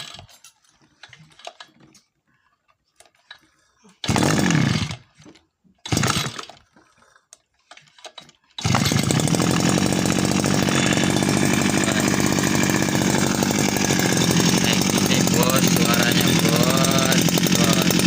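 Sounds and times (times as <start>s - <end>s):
brush cutter engine pull-started: 0.0s - 2.1s, 4.0s - 7.0s, 7.6s - 18.0s.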